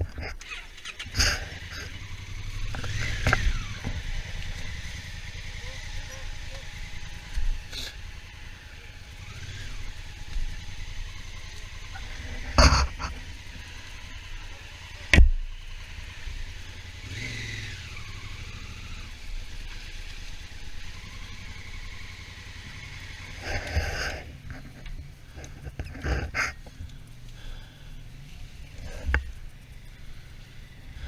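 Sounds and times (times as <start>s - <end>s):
motorcycle engine running: 0.0s - 31.0s
road rumble: 0.0s - 31.0s.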